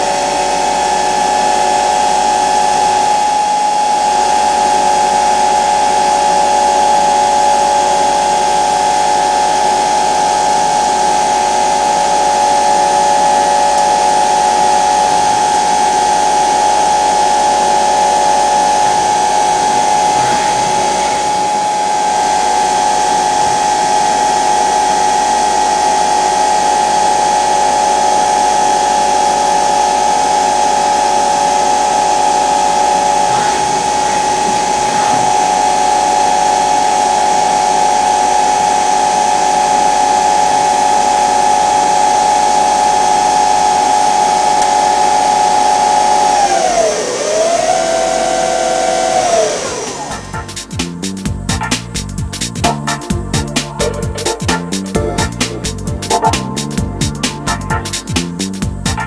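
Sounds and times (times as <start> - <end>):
lathe whining: 0.0 - 50.7.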